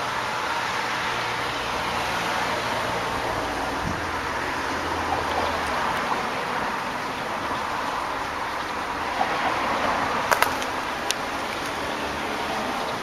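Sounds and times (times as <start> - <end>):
distant road traffic hiss: 0.0 - 13.0.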